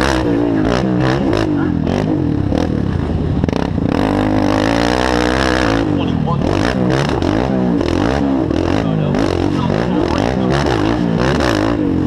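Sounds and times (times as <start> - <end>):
racing engine revving hard: 0.0 - 2.7, 3.5 - 12.0.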